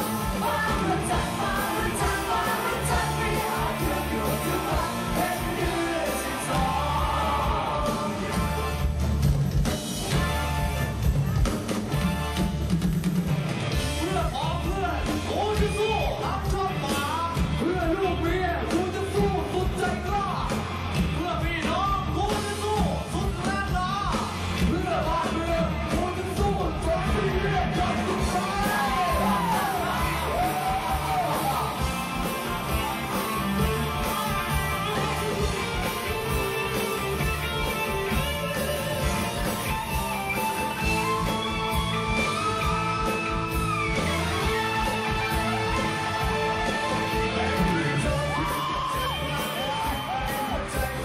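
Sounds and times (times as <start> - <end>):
live pop-rock band with singers: 0.0 - 51.0.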